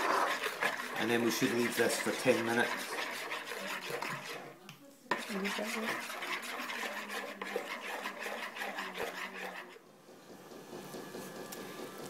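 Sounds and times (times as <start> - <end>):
teaspoon stirring in ceramic bowl: 0.0 - 9.8.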